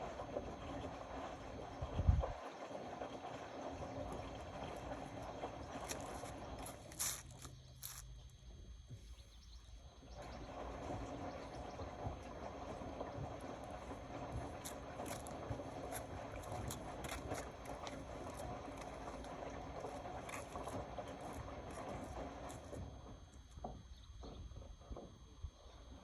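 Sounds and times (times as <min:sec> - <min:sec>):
water sloshing: 0:00.0 - 0:09.0, 0:10.2 - 0:25.6.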